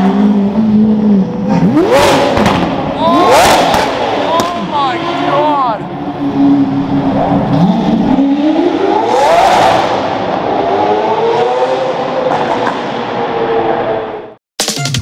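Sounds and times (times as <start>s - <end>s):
sports car accelerating hard: 0.0s - 14.3s.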